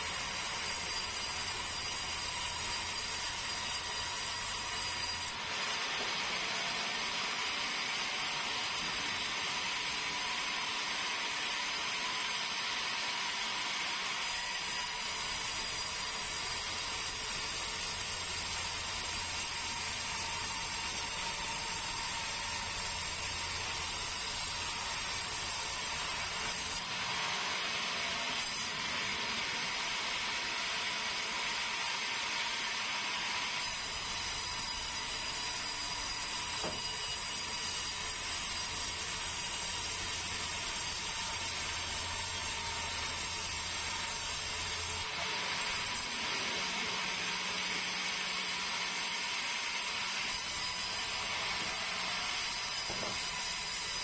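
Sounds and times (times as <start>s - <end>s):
sawmill saw running: 0.0s - 54.0s.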